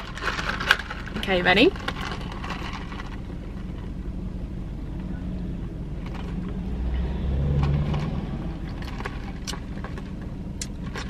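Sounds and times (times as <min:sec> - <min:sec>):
car cabin hum: 0:00.0 - 0:11.0
deep rumble: 0:00.0 - 0:11.0.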